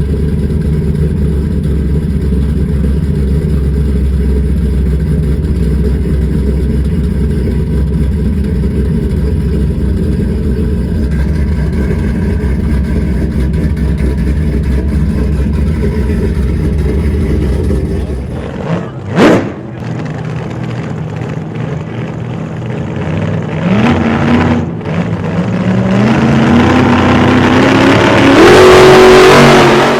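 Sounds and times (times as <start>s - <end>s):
pickup engine rumbling and revving: 0.0s - 29.9s.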